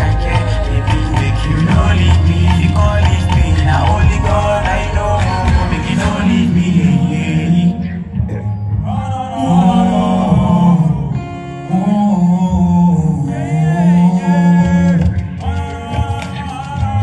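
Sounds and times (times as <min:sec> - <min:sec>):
steady low bass: 0:00.0 - 0:15.5
guitar: 0:00.0 - 0:17.0
person singing: 0:00.0 - 0:17.0.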